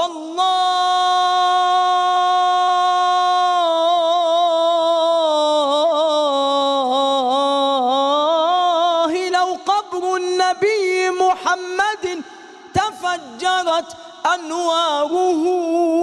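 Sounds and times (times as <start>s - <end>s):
man chanting solo: 0.0s - 16.0s.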